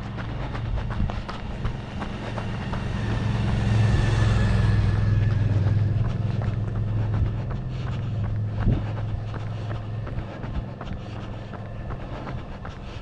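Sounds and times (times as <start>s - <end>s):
vehicle engine hum passing: 0.0s - 13.0s.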